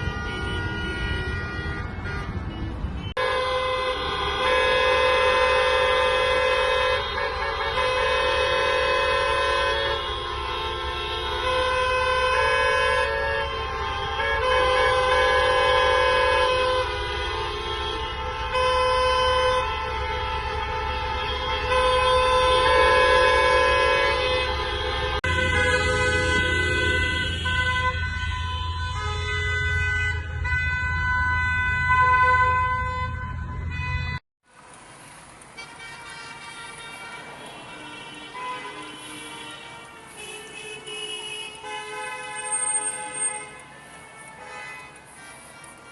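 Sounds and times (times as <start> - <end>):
many car horns honking: 0.0 - 34.2, 35.6 - 45.9.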